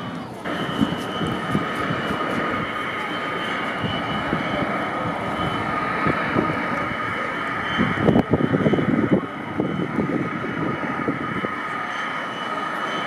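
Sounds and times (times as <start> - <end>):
jet engine whine over loudspeakers: 0.0 - 13.0.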